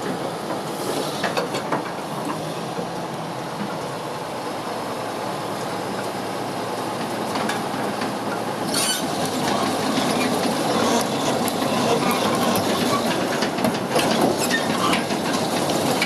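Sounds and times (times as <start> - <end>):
excavator running with rattling: 0.0 - 16.0.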